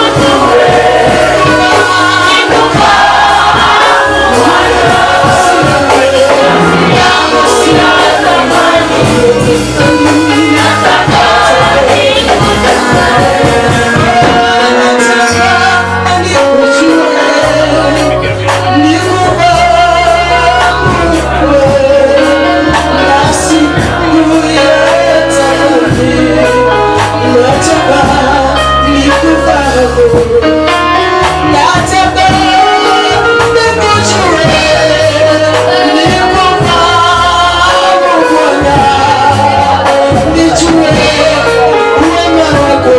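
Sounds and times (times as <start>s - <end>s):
band with bass and percussion: 0.0s - 42.9s
group of singers: 0.0s - 42.9s.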